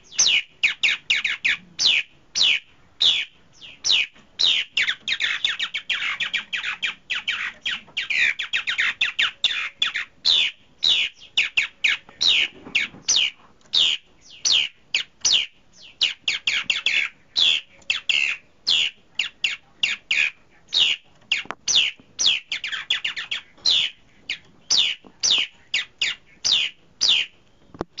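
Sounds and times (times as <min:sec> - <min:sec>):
bird calling sharp notes: 0:00.0 - 0:27.4.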